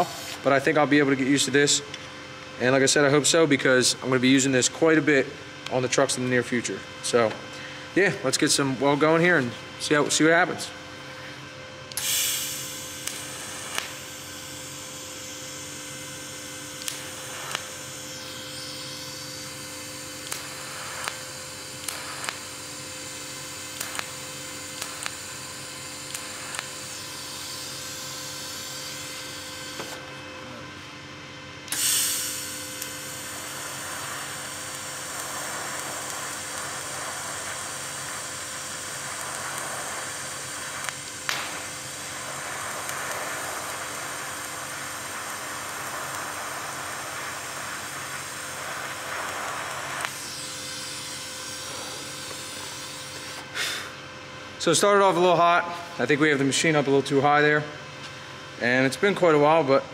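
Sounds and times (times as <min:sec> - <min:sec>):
welding arc buzzing hiss: 0:00.0 - 0:59.8
welder machine hum: 0:00.0 - 0:59.9.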